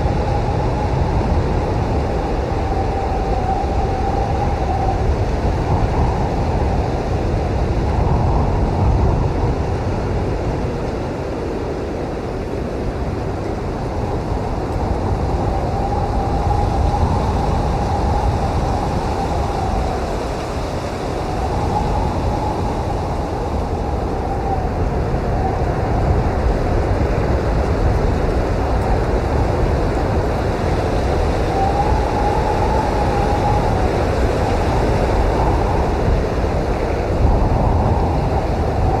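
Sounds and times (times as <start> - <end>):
blizzard wind howling: 0.0 - 39.0.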